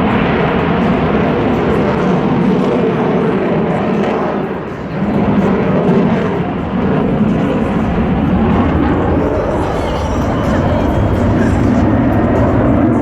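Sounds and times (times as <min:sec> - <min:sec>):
jet aircraft passing: 0:00.0 - 0:13.0.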